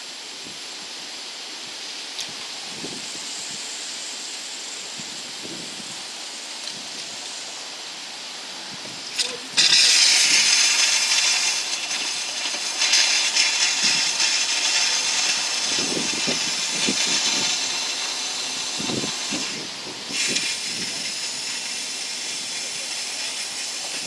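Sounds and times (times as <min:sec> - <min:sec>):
compressed air hissing: 0:02.2 - 0:24.0.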